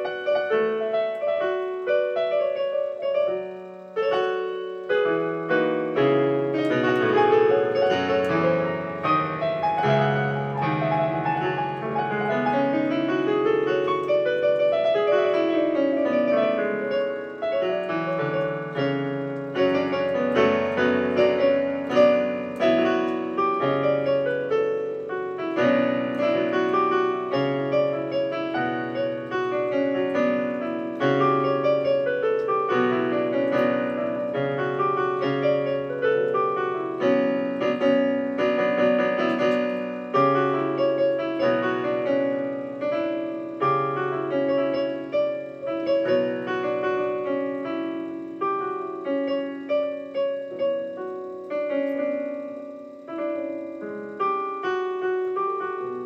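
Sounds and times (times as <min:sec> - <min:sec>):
digital piano playing: 0:00.0 - 0:56.0.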